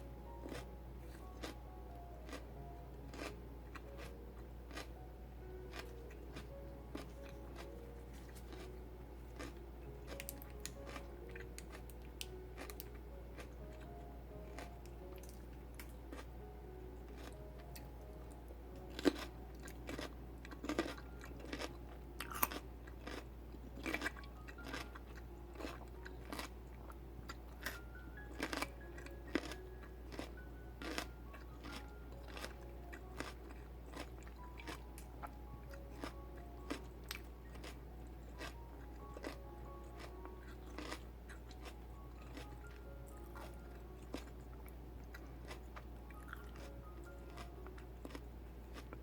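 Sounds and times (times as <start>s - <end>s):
celery crunching while chewed: 0.2s - 49.0s.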